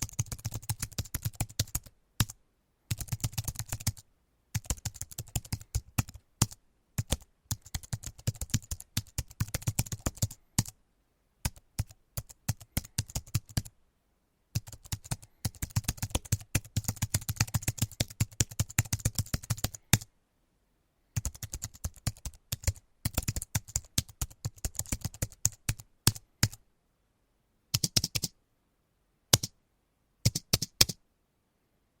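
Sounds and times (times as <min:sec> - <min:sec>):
computer keyboard typing: 0:00.0 - 0:10.8, 0:11.4 - 0:13.7, 0:14.5 - 0:20.1, 0:21.2 - 0:26.6, 0:27.7 - 0:28.4, 0:29.3 - 0:29.6, 0:30.2 - 0:31.0.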